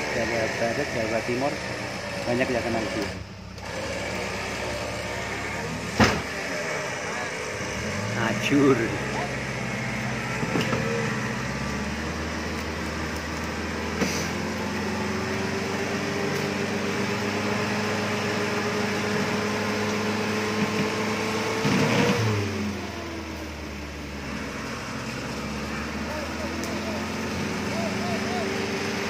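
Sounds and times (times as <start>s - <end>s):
engine at high revs: 0.0s - 29.0s.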